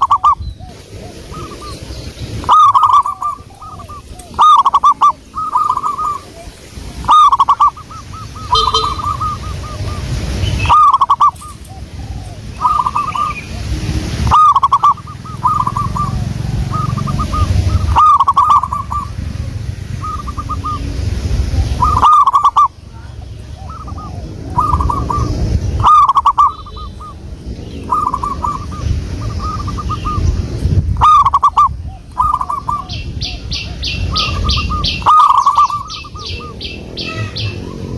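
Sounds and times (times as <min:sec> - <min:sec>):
doves cooing: 0:00.0 - 0:30.4, 0:31.0 - 0:37.9.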